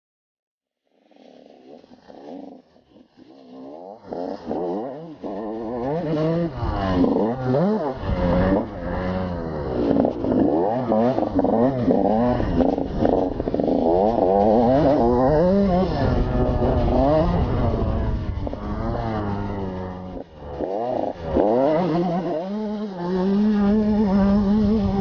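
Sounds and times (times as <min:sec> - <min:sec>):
motocross bike engine revving: 0:02.4 - 0:25.0.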